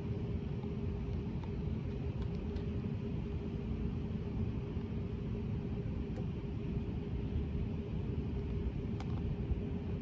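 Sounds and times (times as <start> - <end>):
faint steady hum: 0.0 - 10.0
steady low rumble: 0.0 - 10.0.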